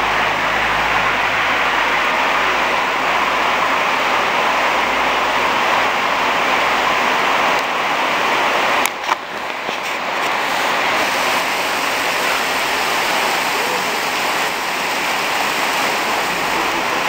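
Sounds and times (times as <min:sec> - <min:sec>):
torrential rain pouring: 0:00.0 - 0:17.0.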